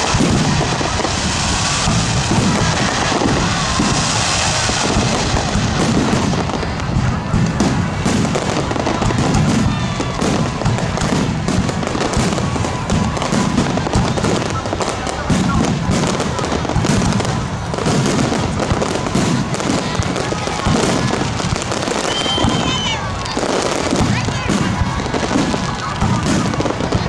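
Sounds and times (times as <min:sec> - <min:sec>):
firework crackle: 0:00.0 - 0:27.0
firework shells bursting: 0:00.0 - 0:27.0.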